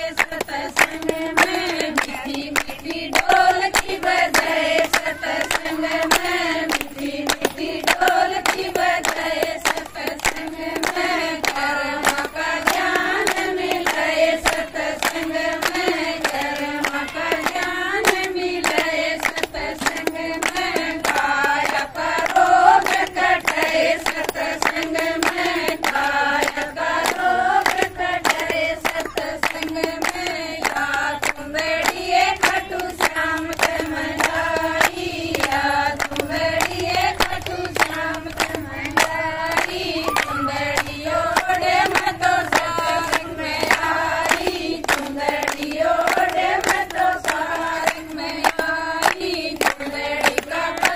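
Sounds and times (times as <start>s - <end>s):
rhythmic hand-clapping: 0.0s - 50.9s
women singing folk song: 0.0s - 50.9s.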